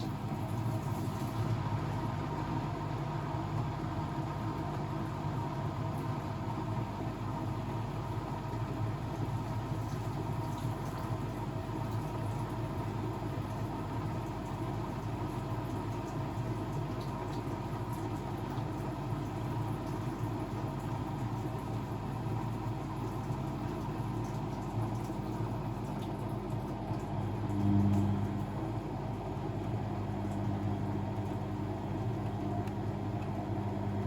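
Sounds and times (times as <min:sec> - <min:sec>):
washing machine humming: 0:00.0 - 0:34.0.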